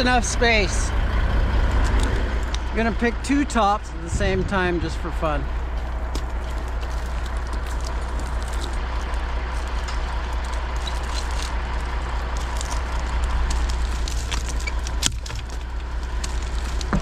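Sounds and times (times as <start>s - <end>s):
crane engine droning: 0.0s - 17.0s.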